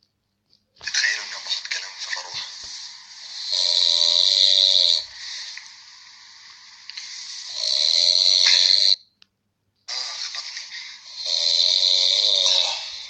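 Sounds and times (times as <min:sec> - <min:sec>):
person snoring: 0:01.0 - 0:09.0, 0:09.9 - 0:13.0.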